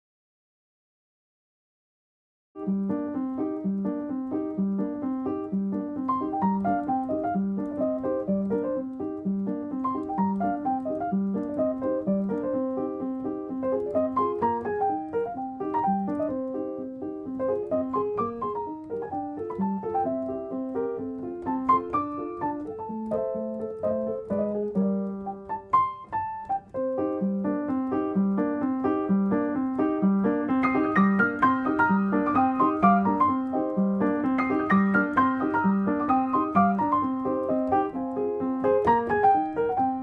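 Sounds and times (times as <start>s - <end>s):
piano music: 2.6s - 40.0s.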